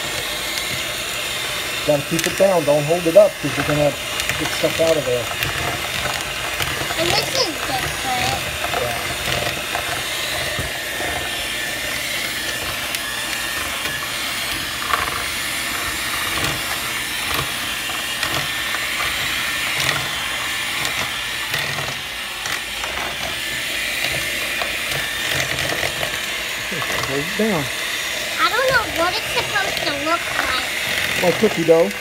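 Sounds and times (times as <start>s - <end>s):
electric hand mixer running: 0.0s - 32.0s.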